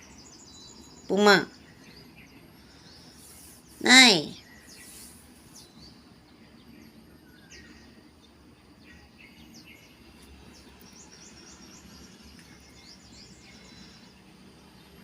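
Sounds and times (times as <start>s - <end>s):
low background noise: 0.0s - 15.0s
small birds chirping: 0.0s - 15.0s.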